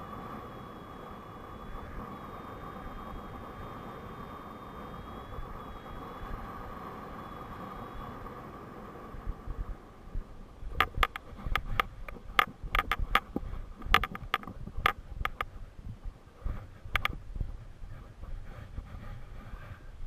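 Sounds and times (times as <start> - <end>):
airflow rushing over microphone: 0.0 - 20.0.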